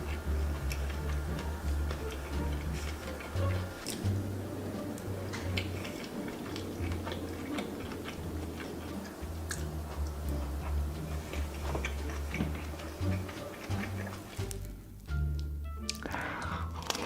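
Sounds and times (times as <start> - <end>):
steady low hum: 0.0 - 16.4
chewing with wet mouth clicks: 0.0 - 17.0.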